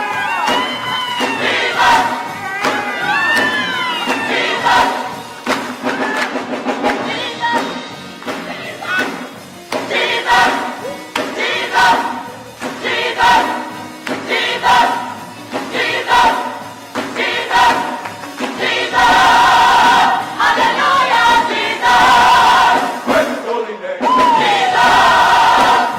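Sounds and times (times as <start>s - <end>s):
music with steady beat: 0.0s - 23.5s, 24.1s - 25.9s
gospel choir singing: 0.0s - 25.9s.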